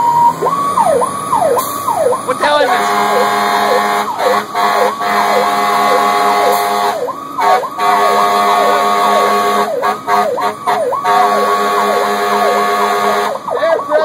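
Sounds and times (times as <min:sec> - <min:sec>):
electronic siren yelping: 0:00.0 - 0:14.0.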